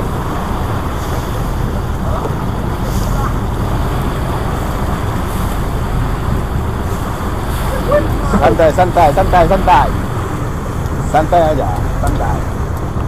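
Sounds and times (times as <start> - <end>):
boat engine running: 0.0 - 13.0
water rushing around hull: 0.0 - 13.0
wind: 0.0 - 13.0.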